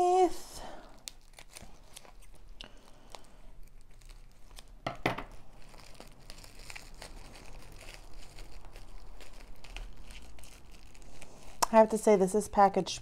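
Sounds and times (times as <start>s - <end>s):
plastic wrapping crinkling: 0.1s - 12.7s.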